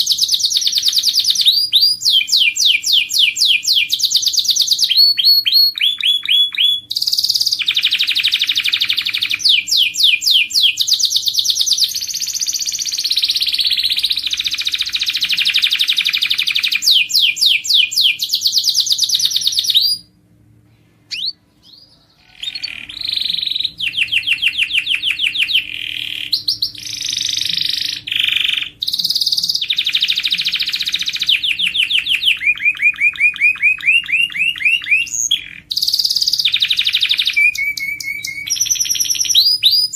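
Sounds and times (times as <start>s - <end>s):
canary singing trills: 0.0s - 20.2s, 21.1s - 39.9s.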